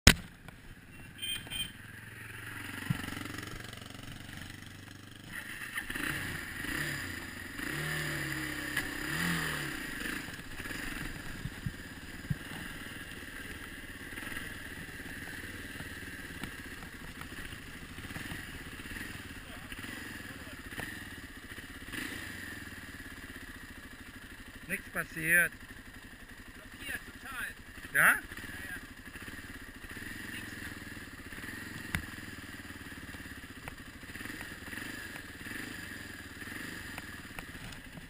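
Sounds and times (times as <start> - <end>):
dirt bike engine running: 0.1 - 38.0.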